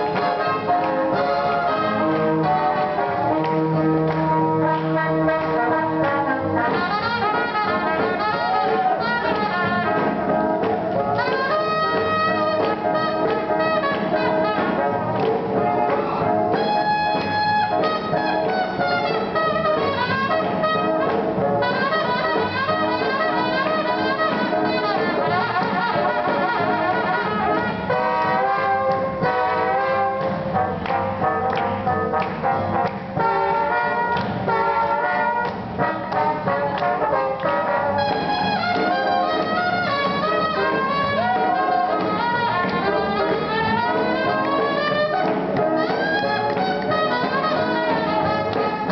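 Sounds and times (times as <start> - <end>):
big band playing swing jazz: 0.0 - 48.9
held brass chord: 0.0 - 48.9.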